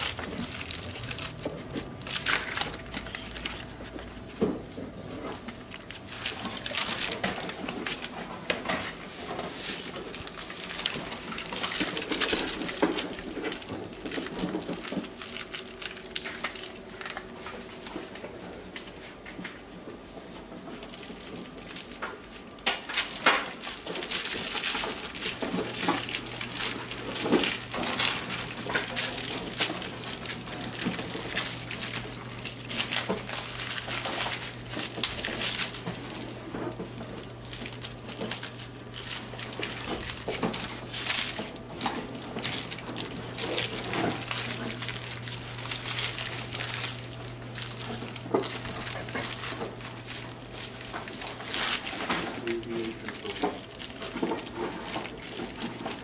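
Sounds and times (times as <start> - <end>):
puppies scuffling on tile floor: 0.0 - 56.0
steady low hum: 0.0 - 56.0.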